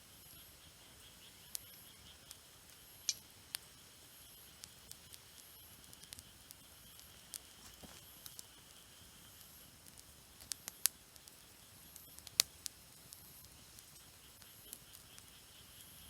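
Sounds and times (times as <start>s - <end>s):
faint steady hiss: 0.0s - 16.0s
campfire wood crackling: 0.5s - 16.0s.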